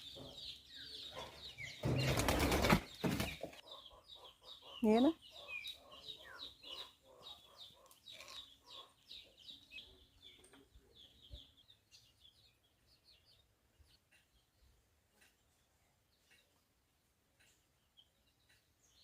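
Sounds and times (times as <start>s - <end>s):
chickens chirping and clucking: 0.0s - 19.0s.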